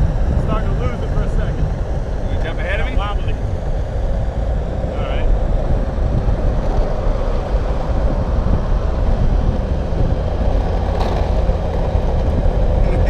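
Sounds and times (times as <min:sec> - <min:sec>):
car road noise: 0:00.0 - 0:13.0
skateboard wheels rolling on asphalt: 0:00.0 - 0:13.0.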